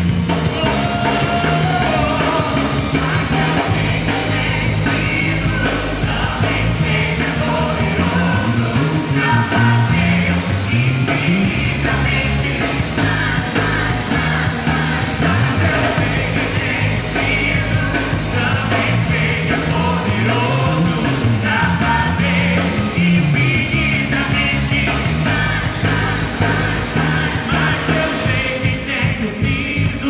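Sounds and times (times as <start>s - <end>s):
live rock band: 0.0s - 30.0s
person singing: 0.4s - 30.0s.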